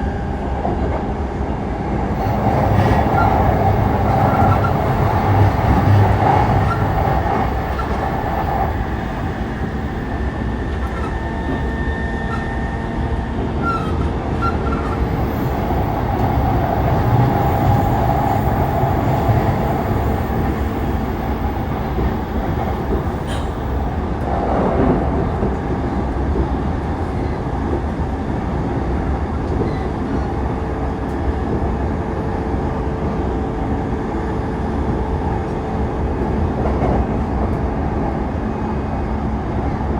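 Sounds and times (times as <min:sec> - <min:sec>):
steady train hum: 0:00.0 - 0:39.9
train wheels rumbling on rail: 0:00.0 - 0:39.9.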